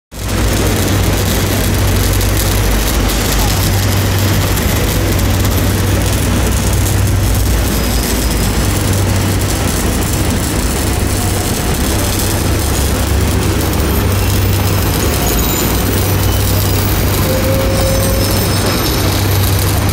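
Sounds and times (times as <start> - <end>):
street traffic noise: 0.1 - 19.9
low machinery engine drone: 0.2 - 19.9.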